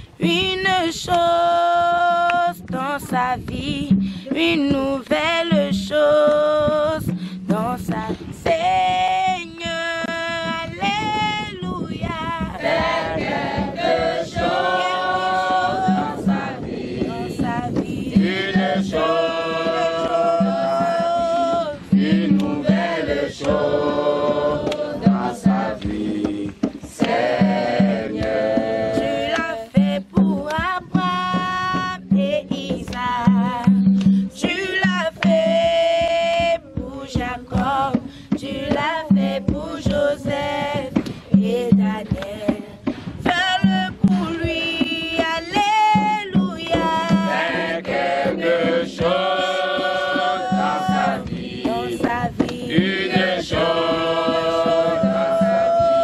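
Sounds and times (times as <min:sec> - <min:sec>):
children and adults singing: 0:07.8 - 0:56.0.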